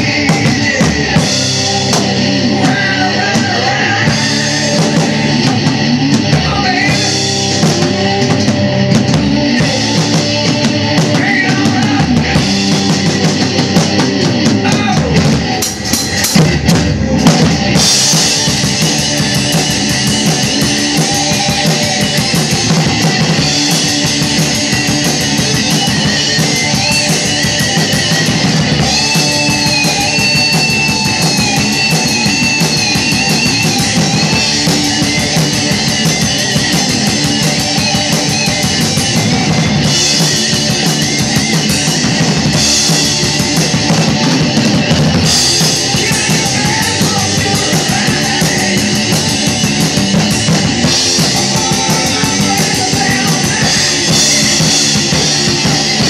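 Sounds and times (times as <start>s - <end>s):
hard rock recording with guitar: 0.0s - 56.0s
rock drum kit playing: 0.0s - 56.0s.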